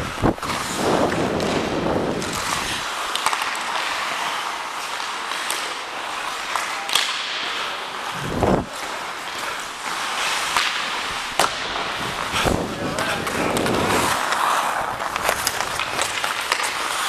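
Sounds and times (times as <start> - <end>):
hockey sticks and puck clicking: 0.0 - 17.0
skates scraping on ice: 0.0 - 17.0.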